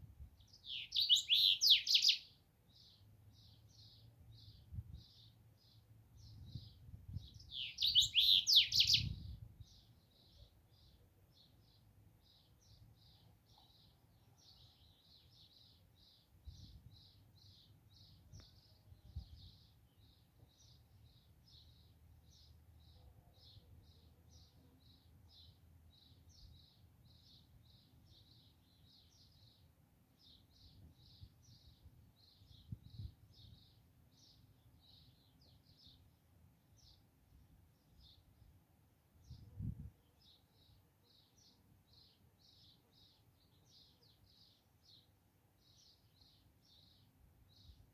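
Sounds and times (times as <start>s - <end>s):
songbirds chirping: 0.0s - 47.9s.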